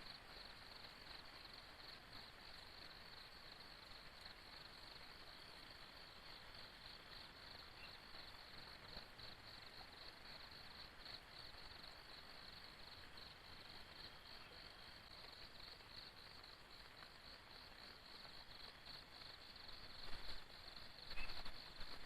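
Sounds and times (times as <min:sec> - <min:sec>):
insects chirping: 0:00.0 - 0:22.0
steady soft hiss: 0:00.0 - 0:22.0.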